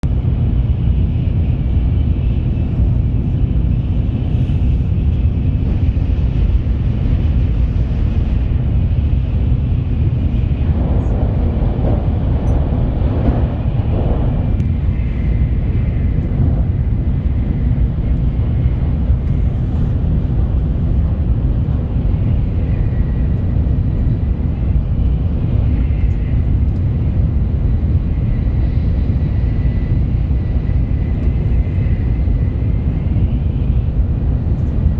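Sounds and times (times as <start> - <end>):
train rumbling at speed: 0.0 - 34.9.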